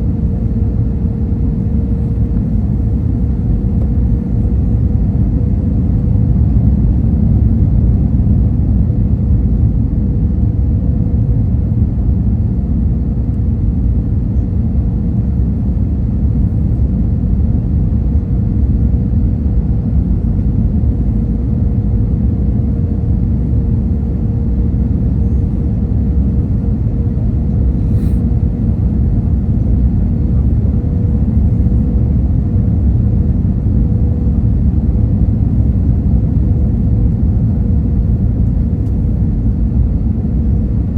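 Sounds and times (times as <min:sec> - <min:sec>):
airliner rumble: 0:00.0 - 0:40.9
mid-pitched hum: 0:00.0 - 0:40.9.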